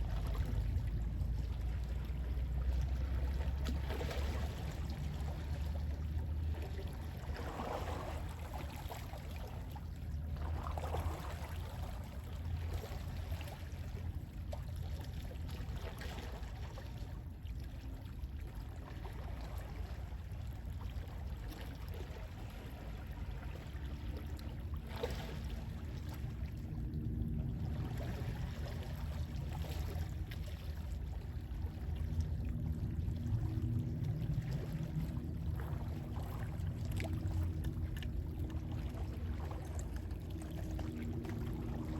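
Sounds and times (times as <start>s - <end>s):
sea waves lapping: 0.0s - 41.9s
sea wind rumble: 0.0s - 41.9s.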